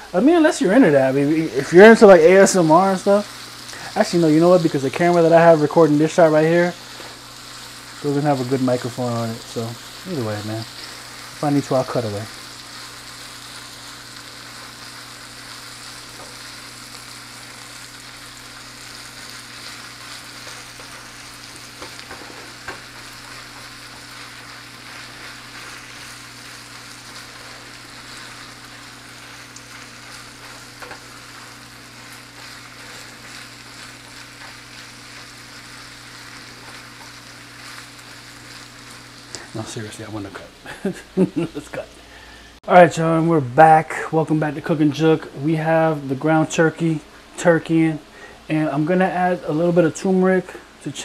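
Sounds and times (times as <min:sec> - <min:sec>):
meat sizzling in a frying pan: 0:00.0 - 0:43.2.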